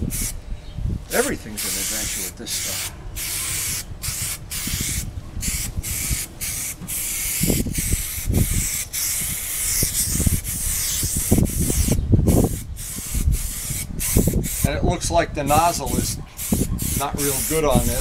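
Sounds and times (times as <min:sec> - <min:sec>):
aerosol spray can hissing: 0:00.1 - 0:00.4, 0:01.6 - 0:14.7, 0:15.8 - 0:18.0.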